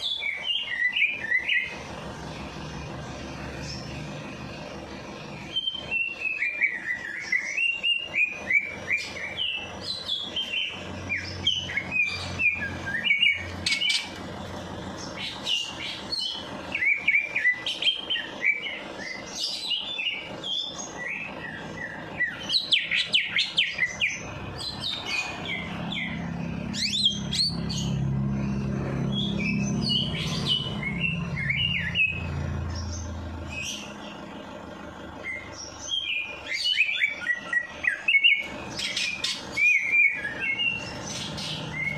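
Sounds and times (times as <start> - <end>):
songbird singing: 0.0 - 41.9
steady low hum: 0.0 - 41.9.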